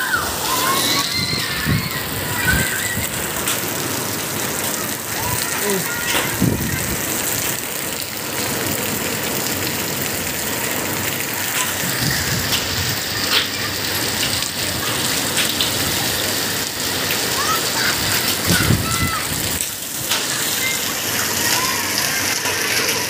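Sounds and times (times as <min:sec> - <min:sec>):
heavy rain hitting ground: 0:00.0 - 0:23.0.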